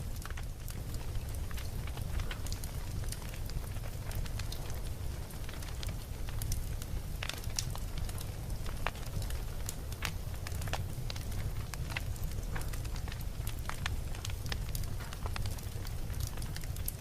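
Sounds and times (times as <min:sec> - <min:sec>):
burning wood crackling and popping: 0:00.0 - 0:17.0
campfire flame rumble: 0:00.0 - 0:17.0.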